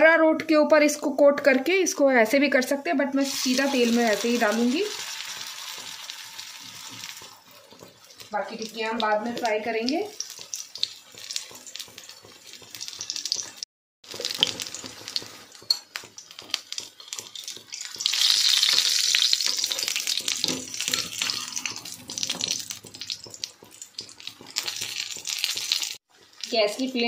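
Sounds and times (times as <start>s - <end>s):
oil sizzling and popping: 3.2s - 27.0s.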